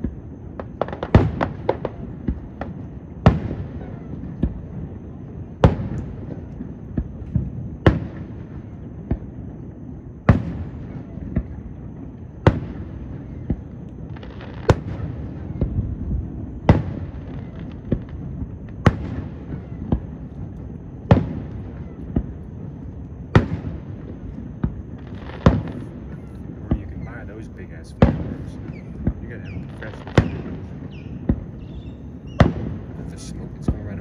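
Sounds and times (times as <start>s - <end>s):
distant fireworks bangs: 0.0s - 34.0s.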